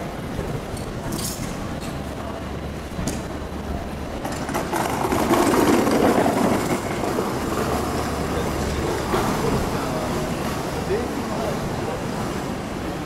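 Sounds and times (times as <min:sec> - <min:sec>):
low city hum: 0:00.0 - 0:13.0.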